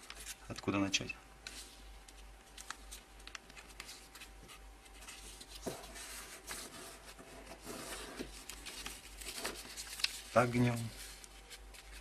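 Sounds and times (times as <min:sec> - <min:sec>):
paper rustling and crinkling: 0:00.0 - 0:00.7, 0:01.4 - 0:12.0.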